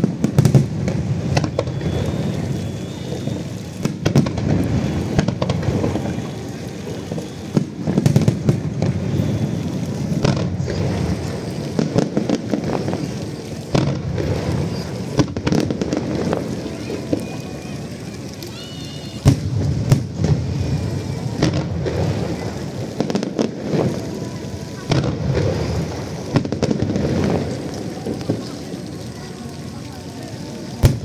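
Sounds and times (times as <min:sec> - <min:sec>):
fireworks booming: 0:00.0 - 0:29.2, 0:30.7 - 0:31.0
fireworks crackling: 0:00.0 - 0:31.0.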